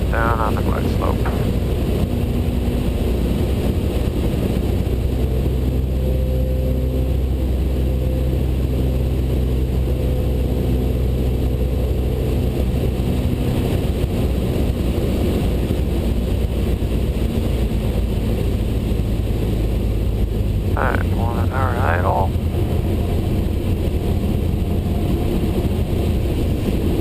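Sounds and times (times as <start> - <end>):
propeller plane engine droning: 0.0 - 27.0
rushing airflow: 0.0 - 27.0.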